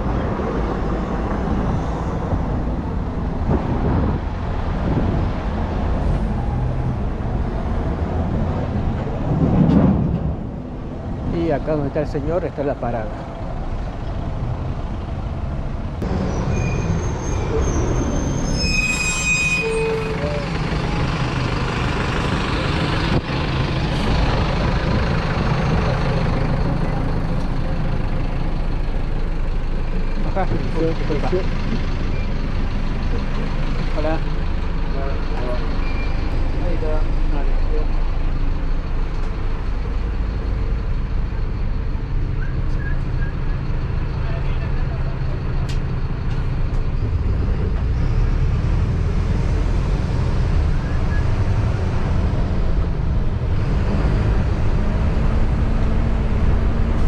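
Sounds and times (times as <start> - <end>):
low traffic rumble: 0.0 - 57.0
bus engine idling: 10.1 - 18.6, 19.3 - 57.0.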